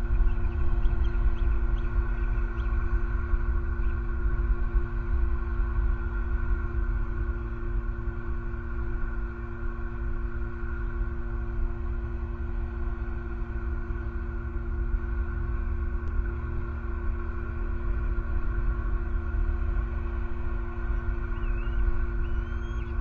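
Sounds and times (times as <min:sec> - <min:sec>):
steady tonal hum: 0:00.0 - 0:23.0.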